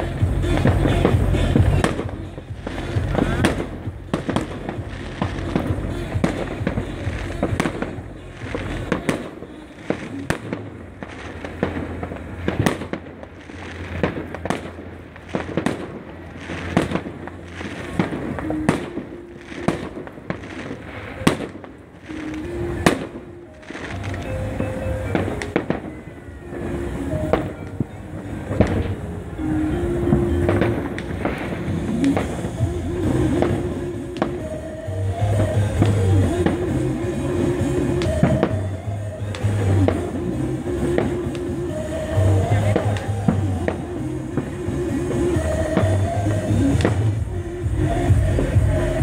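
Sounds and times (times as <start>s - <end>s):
background music: 0.0s - 49.0s
continuous low rumble: 0.0s - 49.0s.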